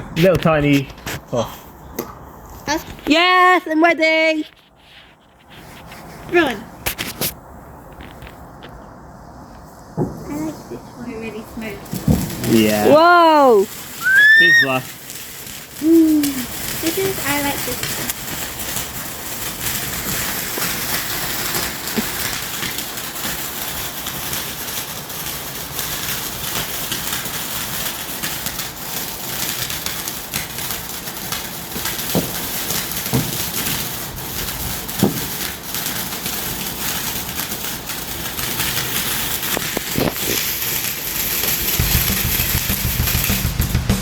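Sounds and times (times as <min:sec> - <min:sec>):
firework fountain hissing and crackling: 0:00.0 - 0:44.0.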